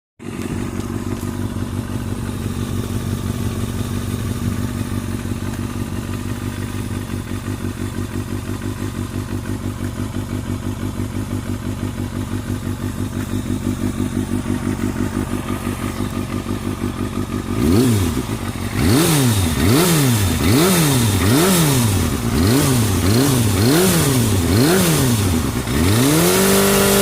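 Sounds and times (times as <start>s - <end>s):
motorcycle engine idling: 0.2s - 27.0s.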